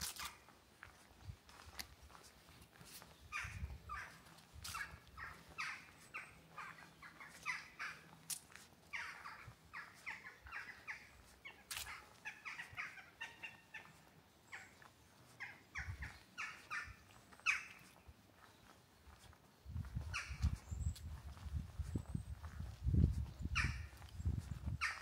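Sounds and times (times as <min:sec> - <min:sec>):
birds calling: 0:02.8 - 0:25.0.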